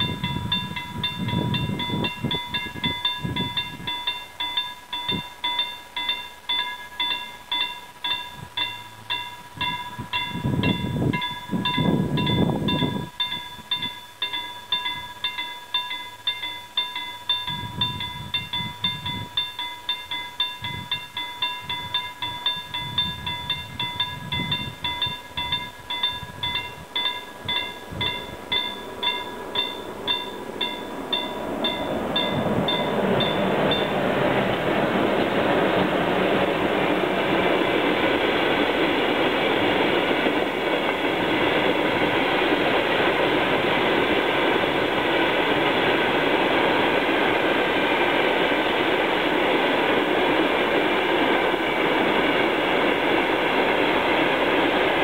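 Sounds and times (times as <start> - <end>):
freight train rumbling and rattling: 0.0 - 55.0
level crossing warning bell: 0.0 - 55.0
train wheels over crossing: 0.0 - 55.0.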